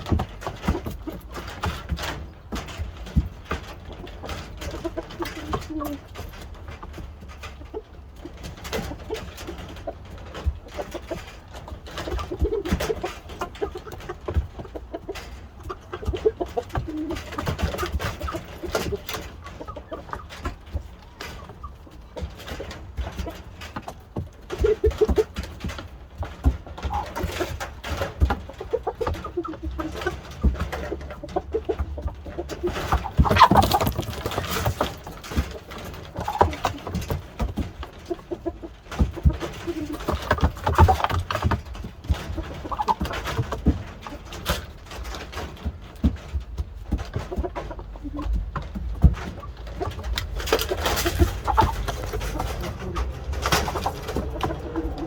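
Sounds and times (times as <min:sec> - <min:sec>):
chickens clucking: 0:00.0 - 0:55.0
knocks and scuffs: 0:08.4 - 0:55.0.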